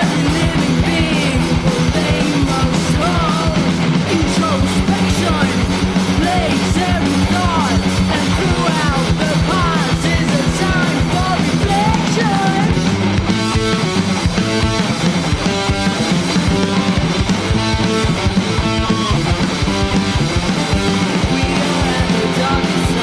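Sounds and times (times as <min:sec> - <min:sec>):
rock song with singer: 0:00.0 - 0:23.0.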